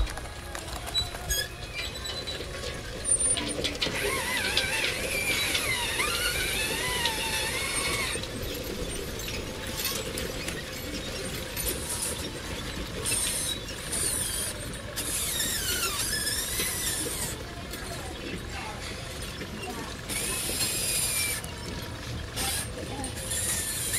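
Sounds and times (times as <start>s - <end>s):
model excavator motors whining: 0.0s - 23.9s.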